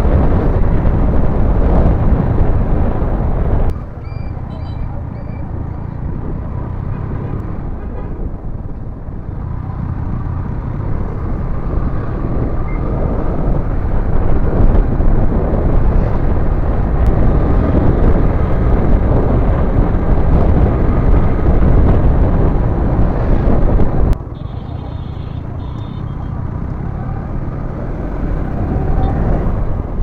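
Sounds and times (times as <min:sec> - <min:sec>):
wind rushing over microphone: 0:00.0 - 0:24.3, 0:25.4 - 0:30.0.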